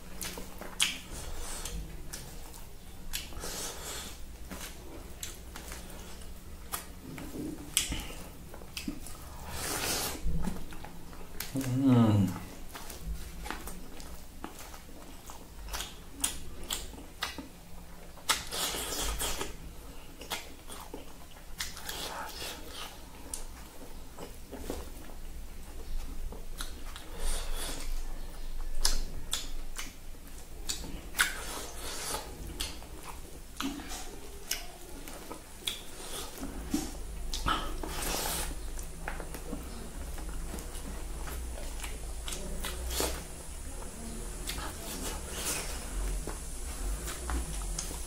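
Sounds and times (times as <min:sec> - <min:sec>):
chewing with lip smacks: 0:00.0 - 0:48.0.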